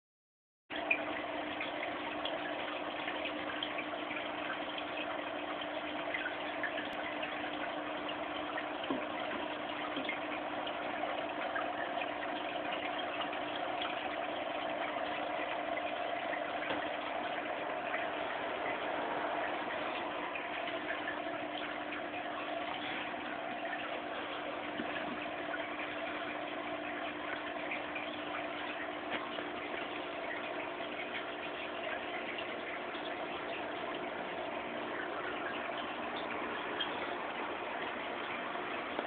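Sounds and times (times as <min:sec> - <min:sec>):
constant hum: 0:00.7 - 0:39.0
trickling splashing water: 0:00.7 - 0:39.0.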